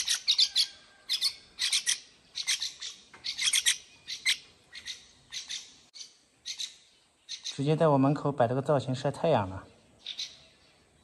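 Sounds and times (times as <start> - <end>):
fledgling birds begging chirps: 0.0 - 11.0.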